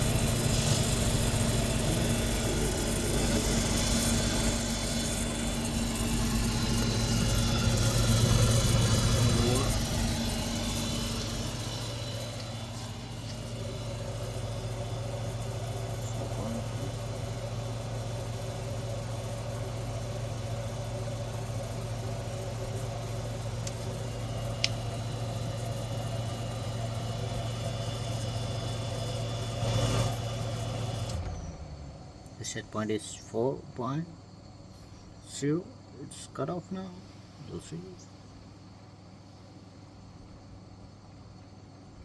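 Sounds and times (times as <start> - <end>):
compressor humming: 0.0 - 42.0.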